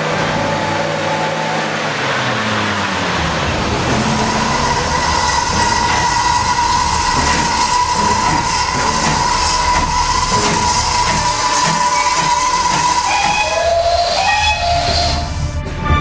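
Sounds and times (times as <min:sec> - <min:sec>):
steam locomotive letting off steam: 0:00.0 - 0:15.8
steady high note: 0:00.0 - 0:16.0.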